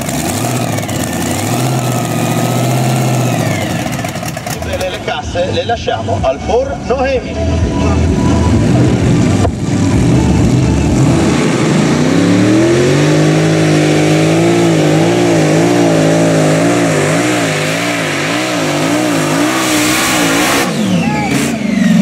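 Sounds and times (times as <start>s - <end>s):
pulling tractor engines revving: 0.0s - 22.0s.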